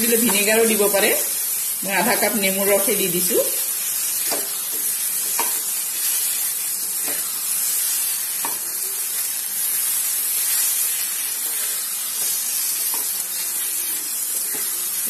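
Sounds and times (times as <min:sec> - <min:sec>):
paste sizzling in a frying pan: 0:00.0 - 0:15.0.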